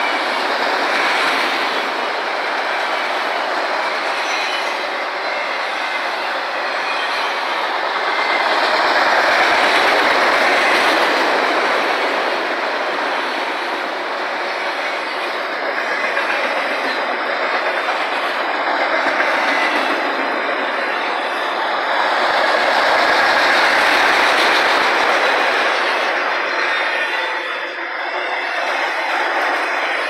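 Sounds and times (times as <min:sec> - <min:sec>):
rhythmic clickety-clack: 0:00.0 - 0:27.4, 0:28.2 - 0:30.0
train wheels rumbling on rails: 0:00.0 - 0:30.0.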